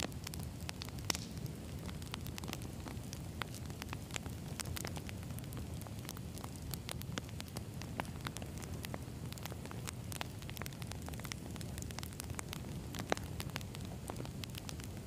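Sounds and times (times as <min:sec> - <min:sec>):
campfire crackling and popping: 0:00.0 - 0:15.0
low rumble of flame: 0:00.0 - 0:15.0.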